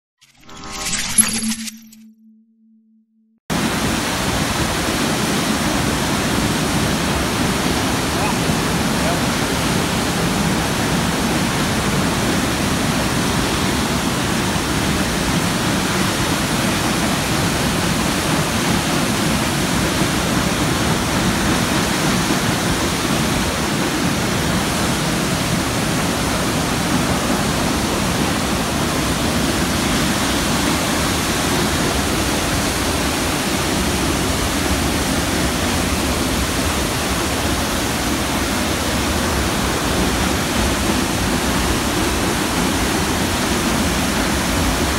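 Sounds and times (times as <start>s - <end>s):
waterfall roaring: 3.6s - 44.9s.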